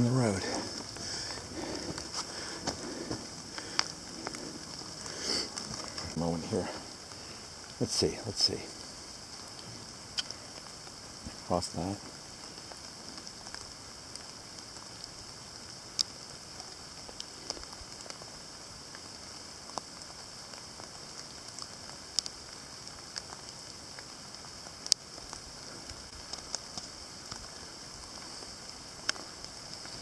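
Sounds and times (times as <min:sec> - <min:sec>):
rain hissing in woodland: 0:00.0 - 0:30.0
raindrops ticking: 0:00.0 - 0:30.0.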